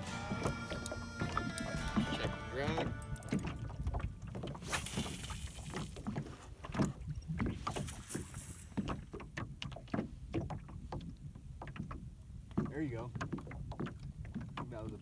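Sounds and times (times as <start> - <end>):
knocks and clunks in boat: 0.0 - 15.0
waves lapping against boat hull: 0.0 - 15.0.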